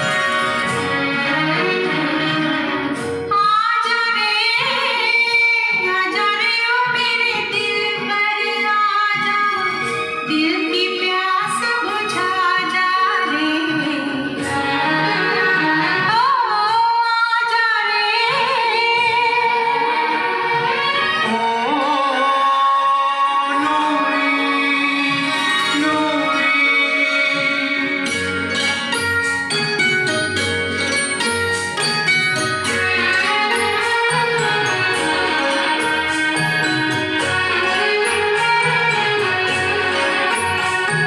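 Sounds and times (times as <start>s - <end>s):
woman singing: 0.0s - 28.7s, 32.7s - 41.0s
instrumental accompaniment: 0.0s - 41.0s.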